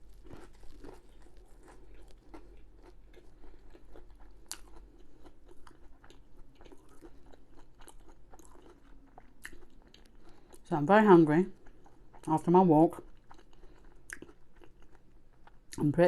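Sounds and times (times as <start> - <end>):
person chewing food: 0.0 - 10.7, 11.3 - 15.8.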